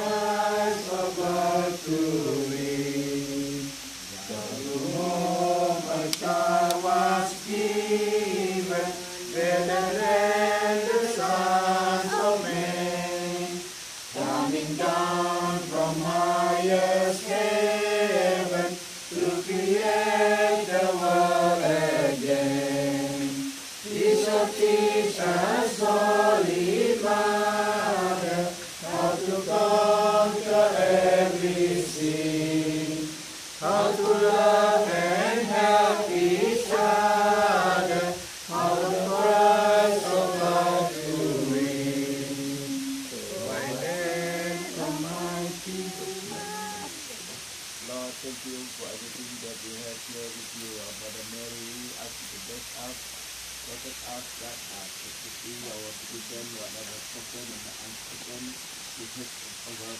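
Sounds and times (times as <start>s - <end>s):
group singing a hymn: 0.0s - 53.0s.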